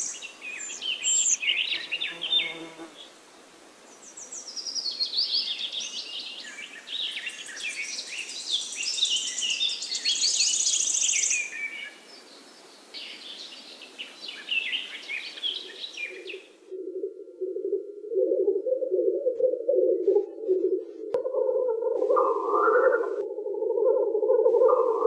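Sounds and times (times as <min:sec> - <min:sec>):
songbirds singing: 0:00.0 - 0:03.2, 0:03.8 - 0:16.6, 0:17.4 - 0:25.0.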